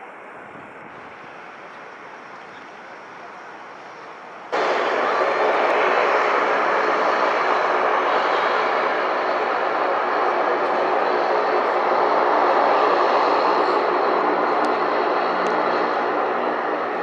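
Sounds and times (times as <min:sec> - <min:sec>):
jet aircraft engines: 0:00.0 - 0:17.0.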